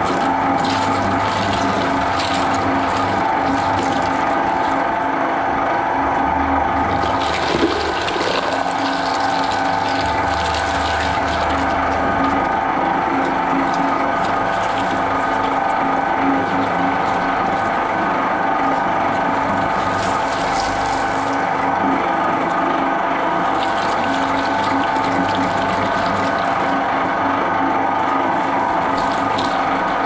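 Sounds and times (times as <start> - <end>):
shredder humming and whining: 0.0 - 30.0.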